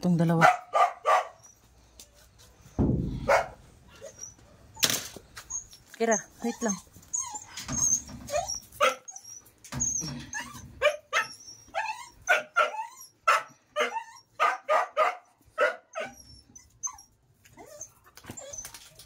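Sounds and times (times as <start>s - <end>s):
dogs barking and yipping: 0.4s - 1.8s, 3.2s - 19.0s.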